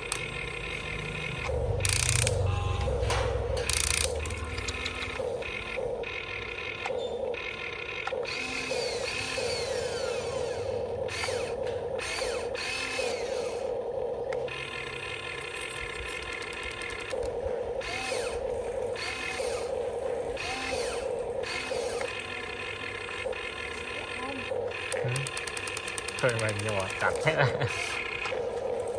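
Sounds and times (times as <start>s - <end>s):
electric gear motors whirring: 0.0s - 28.9s.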